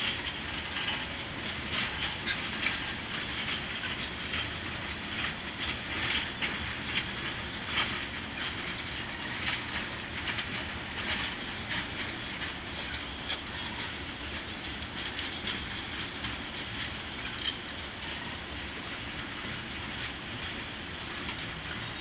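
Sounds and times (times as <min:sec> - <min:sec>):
train wheels rumbling on rail: 0:00.0 - 0:22.0
wheels clicking over track: 0:00.0 - 0:22.0.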